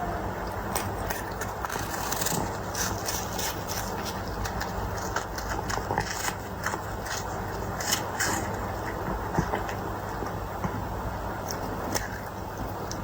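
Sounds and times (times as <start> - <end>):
cat crunching food: 0.6 - 13.0.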